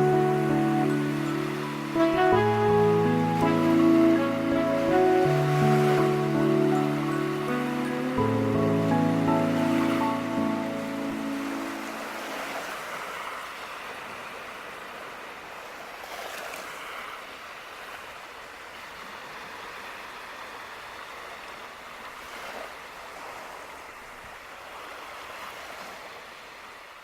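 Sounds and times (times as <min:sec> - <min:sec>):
surf waves breaking on beach: 0:00.0 - 0:27.0.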